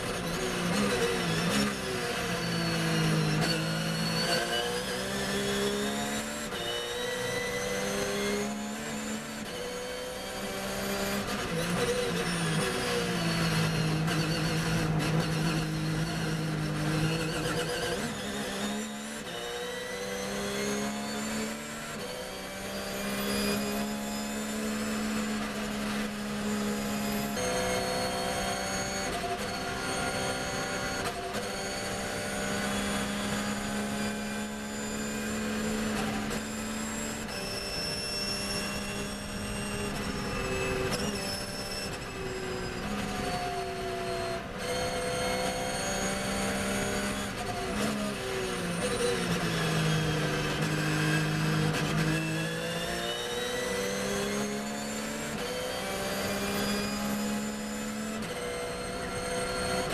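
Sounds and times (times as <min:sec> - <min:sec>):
race car engine revving: 0:09.9 - 0:59.9.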